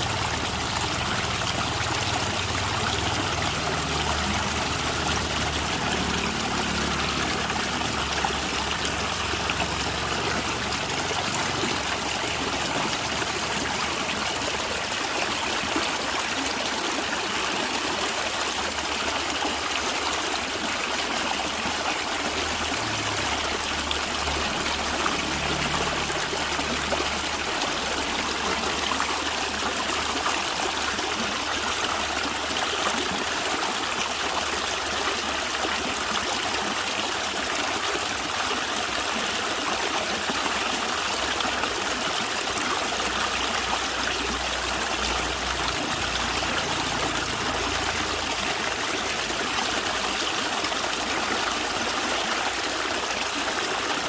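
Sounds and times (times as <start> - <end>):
stream gurgling over rocks: 0.0 - 54.0.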